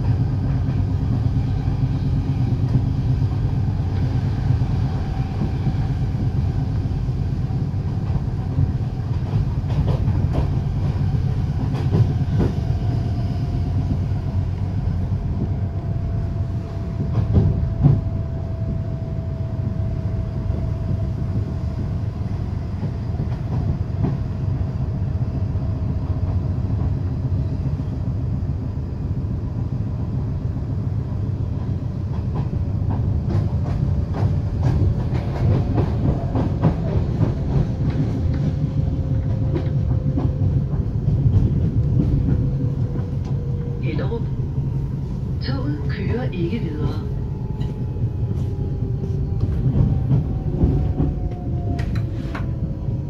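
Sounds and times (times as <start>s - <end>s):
passing train: 0.0s - 53.0s
train wheel and track rumble: 0.0s - 53.0s.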